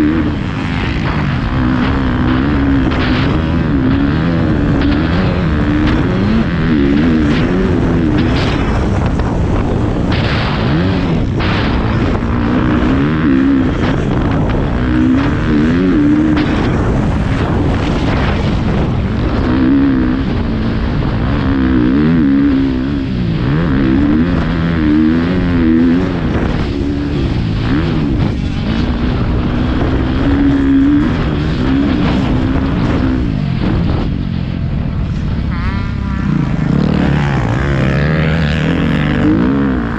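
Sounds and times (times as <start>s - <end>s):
dirt bike engine revving: 0.0s - 39.9s
wind noise: 0.0s - 39.9s.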